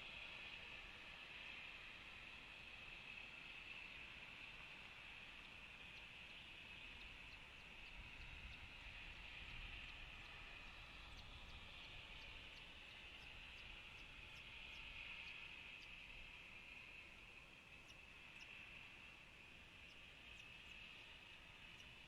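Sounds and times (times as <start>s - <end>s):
insect drone: 0.0s - 22.0s.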